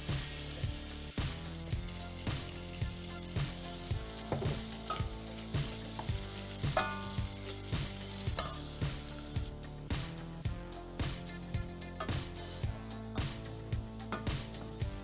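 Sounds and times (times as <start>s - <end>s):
background music with steady beat: 0.0s - 15.0s
meat and onion sizzling in fat: 0.0s - 15.0s.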